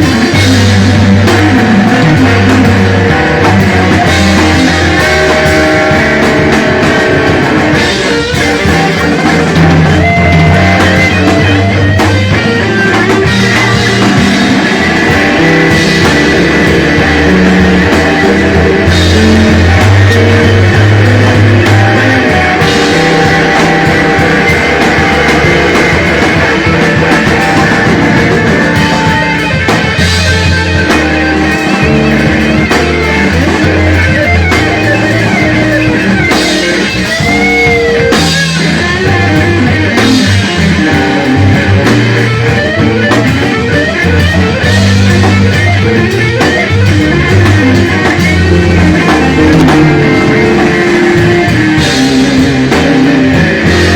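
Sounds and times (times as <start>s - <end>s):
blues-rock band playing: 0.0s - 53.9s
electric guitar lead: 0.0s - 53.9s.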